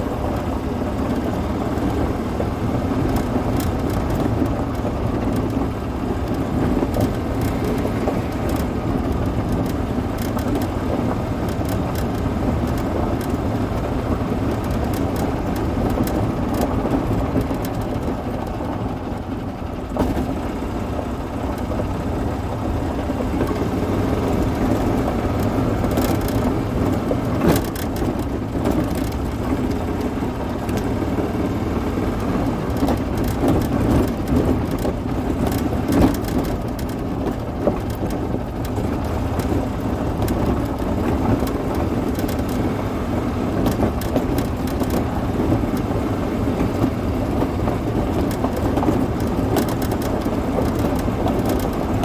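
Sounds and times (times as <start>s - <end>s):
golf cart running: 0.0s - 52.0s.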